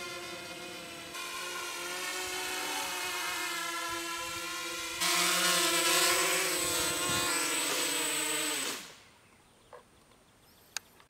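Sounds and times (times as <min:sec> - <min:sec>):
quadcopter propellers whirring: 0:00.0 - 0:09.0.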